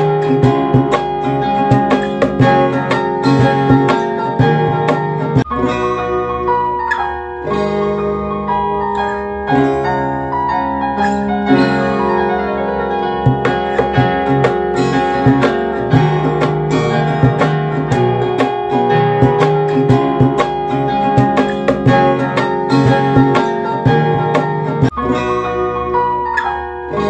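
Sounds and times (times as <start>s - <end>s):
instrumental piano music: 0.0s - 27.0s.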